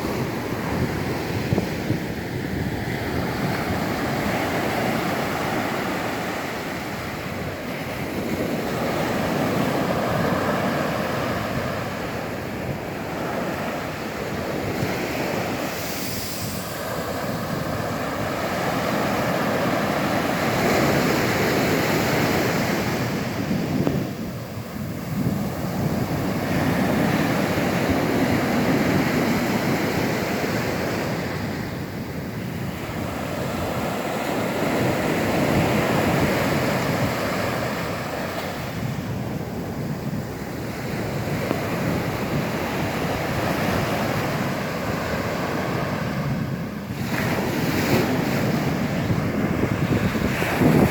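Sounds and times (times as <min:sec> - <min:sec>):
ocean surf breaking: 0:00.0 - 0:50.9
wind rumbling on microphone: 0:00.0 - 0:50.9.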